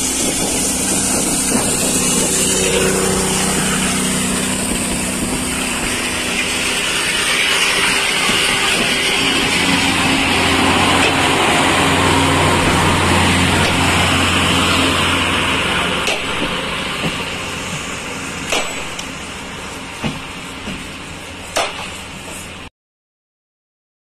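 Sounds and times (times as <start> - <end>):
diesel engine humming: 0.0 - 22.7.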